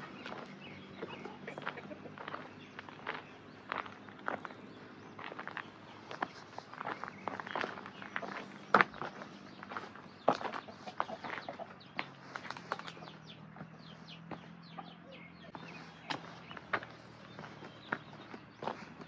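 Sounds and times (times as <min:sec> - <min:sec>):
chickens clucking: 0:00.0 - 0:04.5, 0:05.1 - 0:19.0
footsteps and knocks on path: 0:00.1 - 0:19.0.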